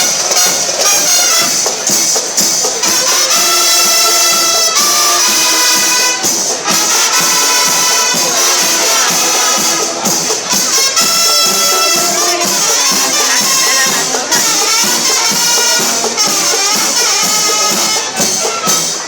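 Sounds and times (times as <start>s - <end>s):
loud music with steady beat: 0.0s - 19.0s.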